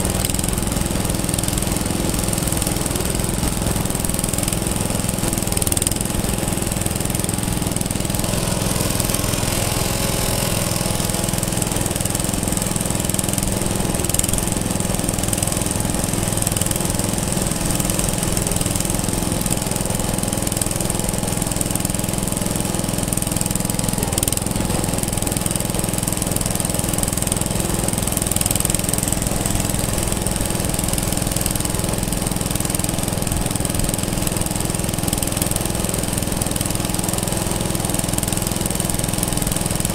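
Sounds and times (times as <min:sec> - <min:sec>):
engine chugging: 0:00.0 - 0:39.9.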